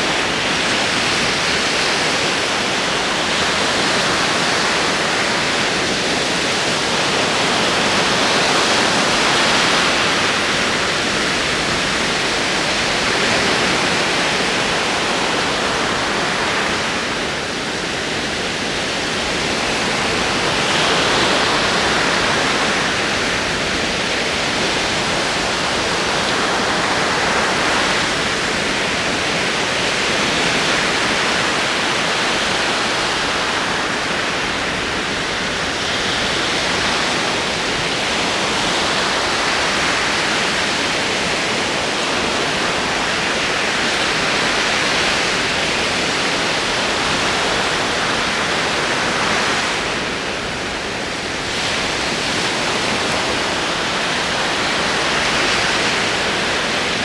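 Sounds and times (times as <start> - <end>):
ocean waves rolling in: 0.0 - 57.0.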